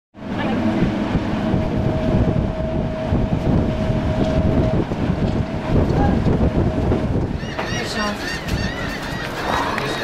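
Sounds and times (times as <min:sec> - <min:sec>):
wind buffeting microphone: 0:00.2 - 0:10.0.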